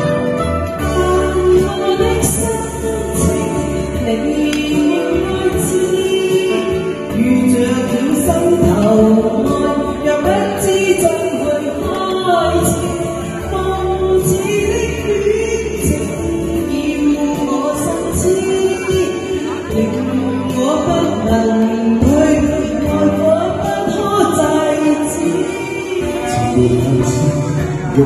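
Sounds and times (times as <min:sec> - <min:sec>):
pop backing track: 0:00.0 - 0:28.0
woman singing into microphone: 0:00.0 - 0:28.0.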